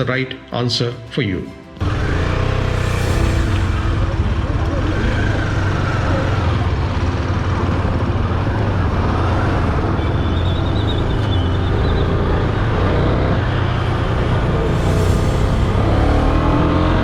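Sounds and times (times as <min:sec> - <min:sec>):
road traffic noise: 0:01.6 - 0:17.0
vehicle engine running: 0:01.8 - 0:17.0.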